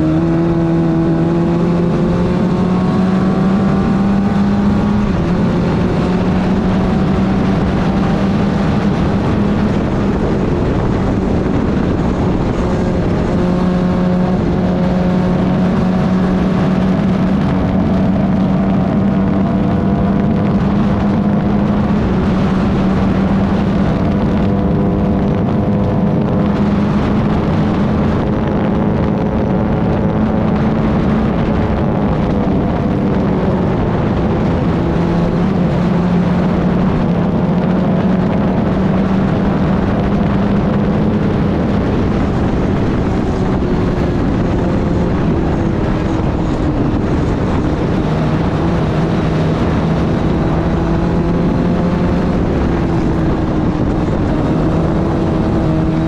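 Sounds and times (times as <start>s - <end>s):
race car engine: 0.0s - 56.0s
rushing wind noise: 0.0s - 56.0s.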